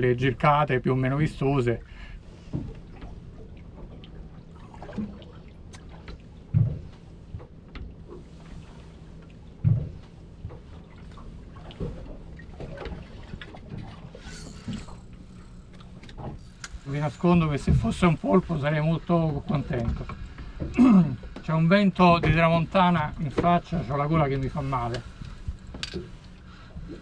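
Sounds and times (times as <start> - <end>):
low steady hum: 0.0 - 27.0
water lapping against boat hull: 0.0 - 27.0.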